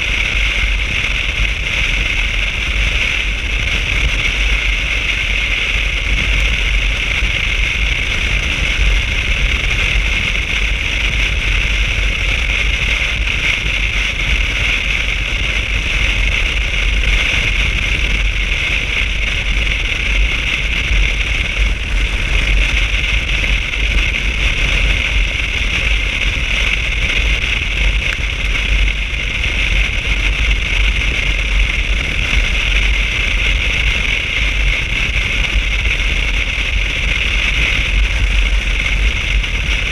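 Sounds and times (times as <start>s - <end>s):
motorcycle road noise: 0.0s - 39.9s.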